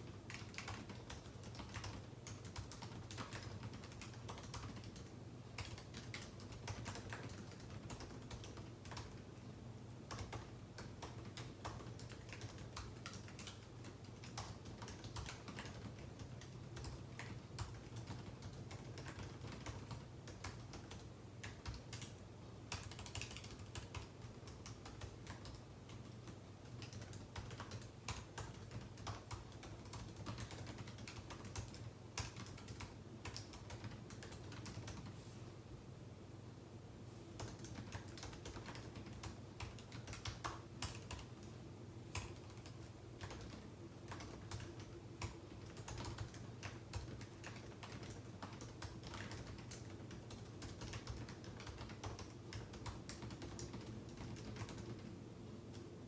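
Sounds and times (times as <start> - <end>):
typing on computer keyboard: 0.0 - 9.4, 10.0 - 35.1, 37.4 - 55.9
steady low hum: 0.0 - 56.0.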